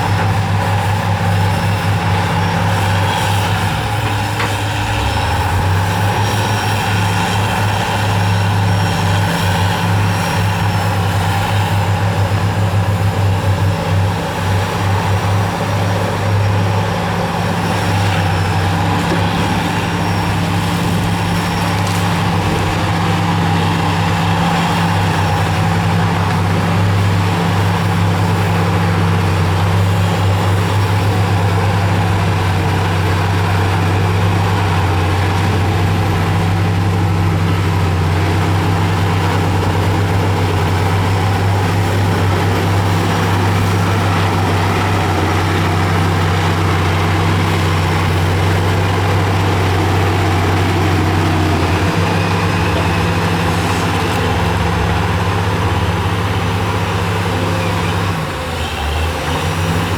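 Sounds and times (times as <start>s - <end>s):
heavy diesel engine drone: 0.0s - 59.9s.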